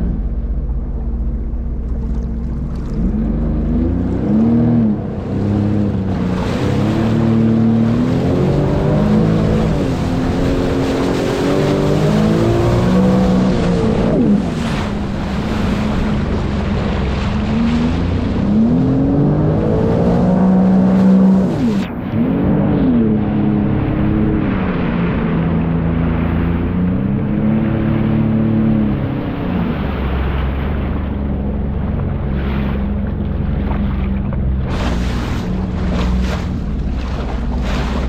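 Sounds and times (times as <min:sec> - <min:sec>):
watercraft engine revving: 0:00.0 - 0:38.0
wind rumble on microphone: 0:00.0 - 0:38.0.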